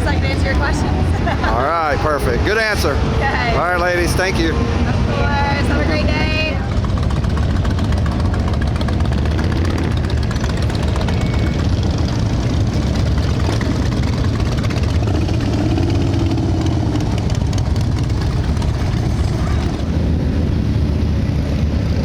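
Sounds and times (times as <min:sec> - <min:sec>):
motorcycle engines idling: 0:00.0 - 0:22.0.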